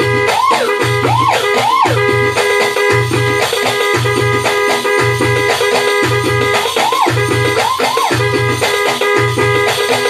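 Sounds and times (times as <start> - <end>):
bass pulse: 0.0 - 8.6
keyboard horn melody: 0.0 - 10.0
percussion beat: 0.0 - 10.0.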